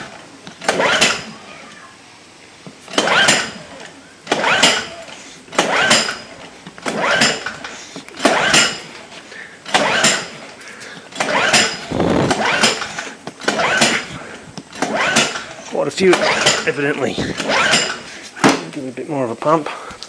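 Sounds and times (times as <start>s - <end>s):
recoil starter cord rasp: 0.0s - 1.4s, 2.9s - 18.4s
generator engine cranking: 0.0s - 1.5s, 2.8s - 18.7s.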